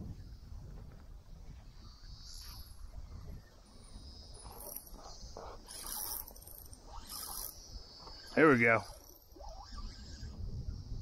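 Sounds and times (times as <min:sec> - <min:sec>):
wind rumble on microphone: 0:00.0 - 0:11.0
fishing reel whirring: 0:01.8 - 0:11.0.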